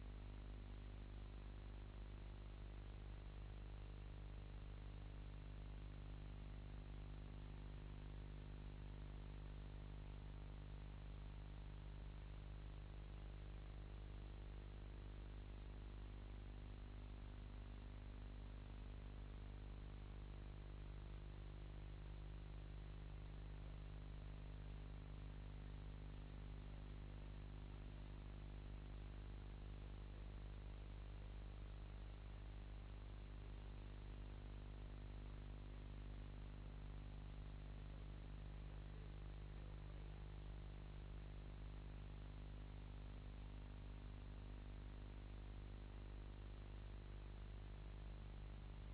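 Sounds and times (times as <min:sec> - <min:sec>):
faint high whine: 0:00.0 - 0:48.9
low electrical hum: 0:00.0 - 0:48.9.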